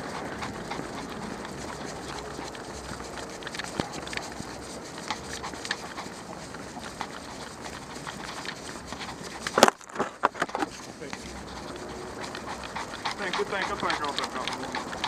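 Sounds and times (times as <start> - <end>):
dog claws ticking on pavement: 0.0 - 15.0.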